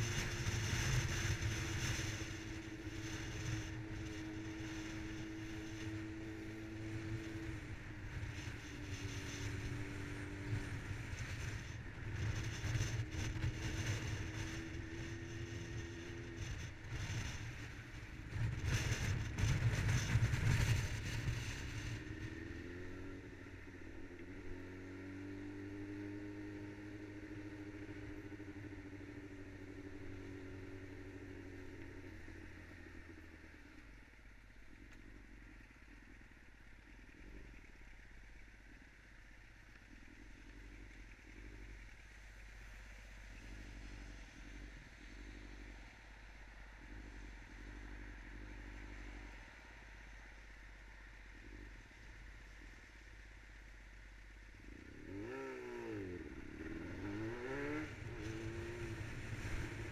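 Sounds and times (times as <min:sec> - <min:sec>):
motorcycle engine running and idling: 0:00.0 - 0:59.9.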